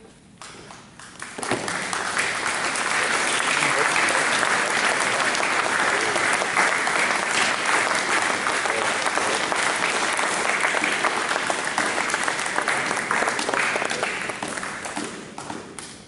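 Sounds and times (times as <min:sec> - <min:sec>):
group applauding: 0:00.4 - 0:15.9.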